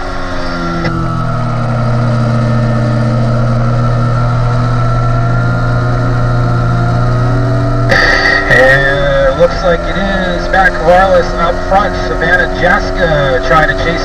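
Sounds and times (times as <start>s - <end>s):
motorcycle engine running hard: 0.0s - 14.0s.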